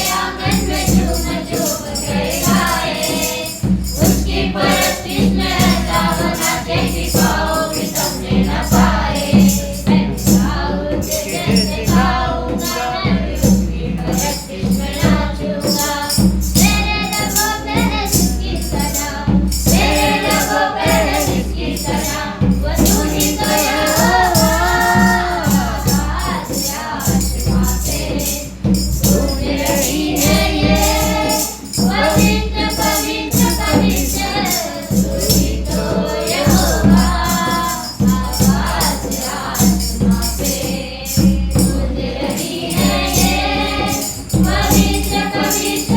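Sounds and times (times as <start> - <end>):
tambourine shaking: 0.0 - 45.9
voices singing worship music: 0.0 - 45.9.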